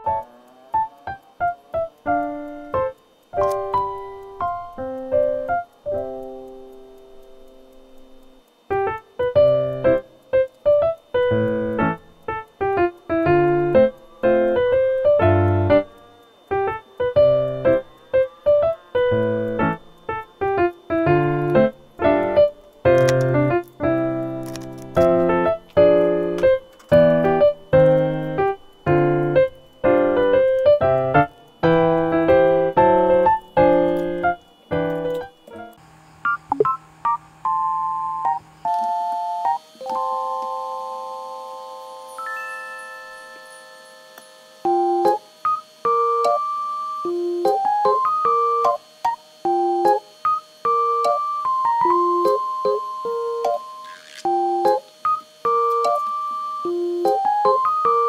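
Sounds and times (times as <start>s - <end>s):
light keyboard tune: 0.0s - 58.0s.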